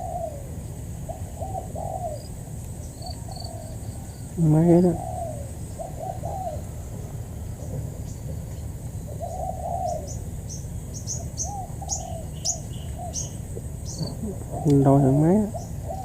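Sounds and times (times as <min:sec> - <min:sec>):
doves cooing: 0:00.0 - 0:16.0
small bird chirping: 0:01.1 - 0:06.7, 0:07.5 - 0:16.0.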